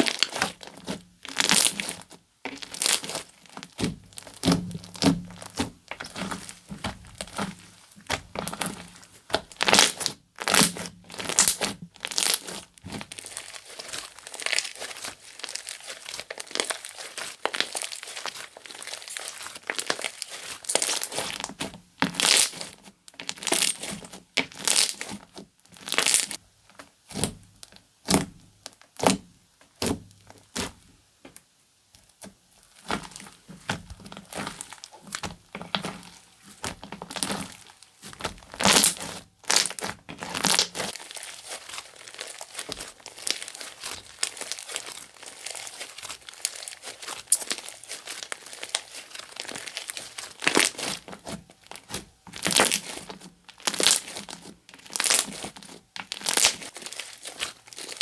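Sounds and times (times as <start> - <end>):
slime squishing and squelching: 0.0 - 30.8, 32.0 - 58.0.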